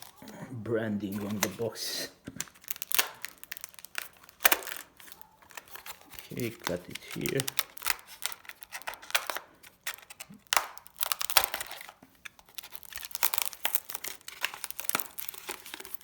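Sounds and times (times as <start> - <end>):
tape and cardboard tearing: 0.0 - 0.2, 2.2 - 16.0.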